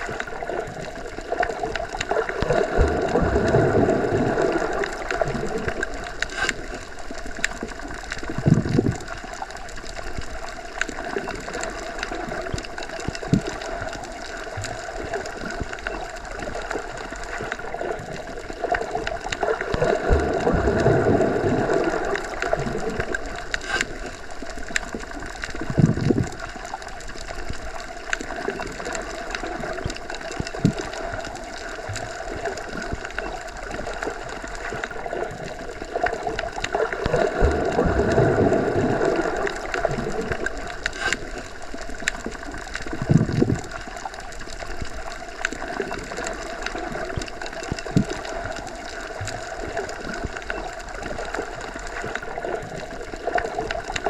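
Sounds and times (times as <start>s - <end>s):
underwater surging: 0.0s - 54.0s
small clicks: 4.8s - 20.0s, 22.1s - 37.2s, 39.5s - 54.0s.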